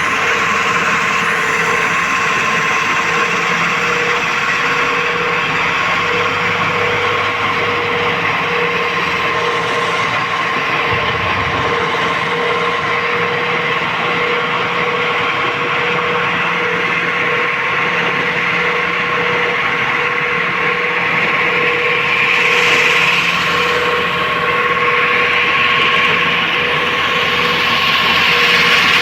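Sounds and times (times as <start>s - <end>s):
diesel engine running with whine: 0.0s - 29.0s.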